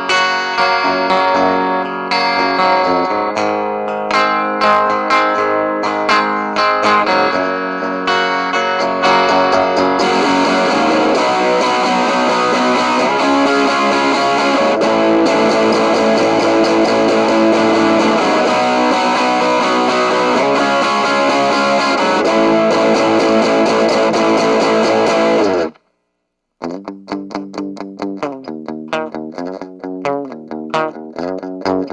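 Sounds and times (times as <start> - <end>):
distorted electric guitar: 0.0 - 25.8, 26.6 - 31.9.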